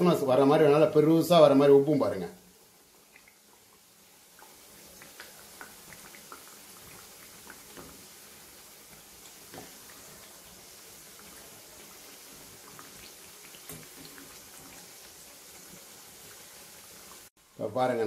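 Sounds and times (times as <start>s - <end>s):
food deep-frying in oil: 0.0s - 18.0s.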